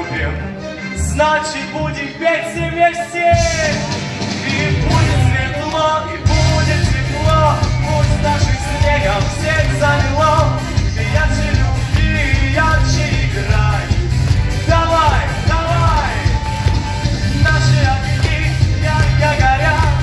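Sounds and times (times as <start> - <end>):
backing music with heavy beat: 0.0 - 20.0
man singing into microphone: 1.3 - 14.0, 14.6 - 20.0.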